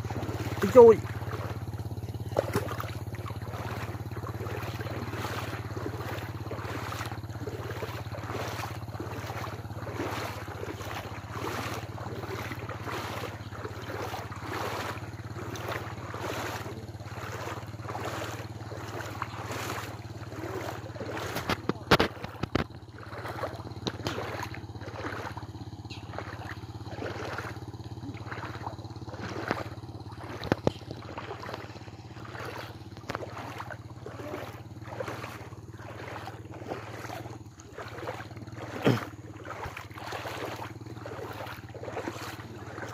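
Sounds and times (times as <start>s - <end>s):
engine humming: 0.0s - 42.9s
water sloshing: 0.0s - 42.9s.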